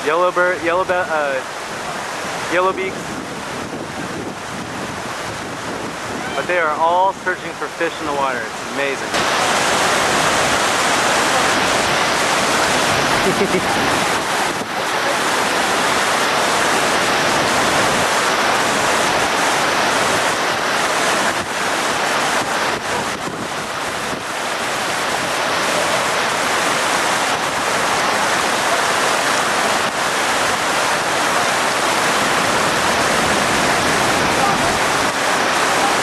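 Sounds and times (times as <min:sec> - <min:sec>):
whitewater rushing over rocks: 0:00.0 - 0:36.0.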